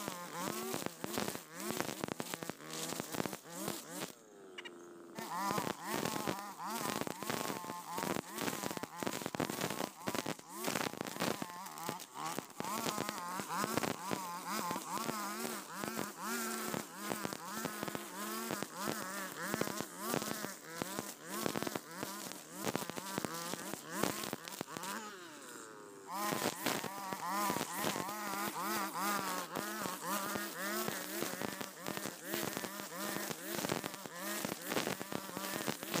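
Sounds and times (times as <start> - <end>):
brush cutter engine running: 0.0 - 36.0.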